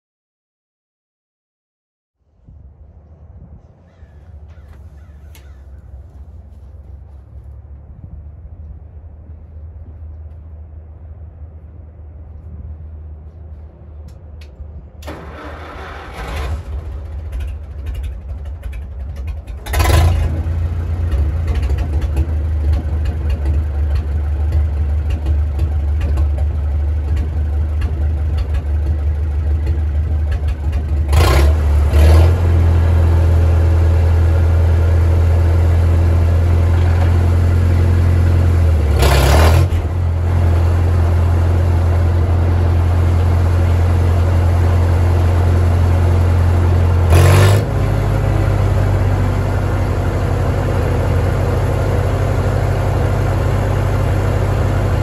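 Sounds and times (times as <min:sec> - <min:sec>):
tractor engine running: 0:03.0 - 0:55.0.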